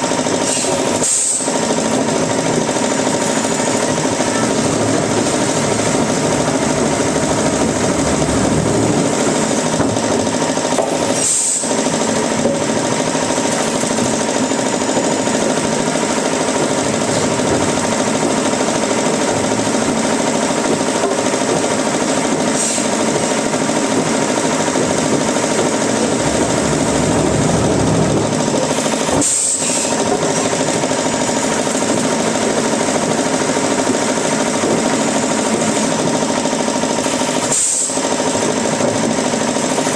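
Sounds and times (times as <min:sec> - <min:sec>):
woodworking machinery clattering: 0:00.0 - 0:39.9.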